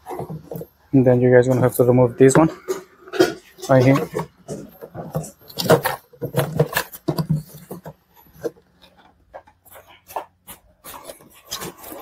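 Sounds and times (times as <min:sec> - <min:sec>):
hard plastic clicking and rubbing: 0:02.3 - 0:12.0.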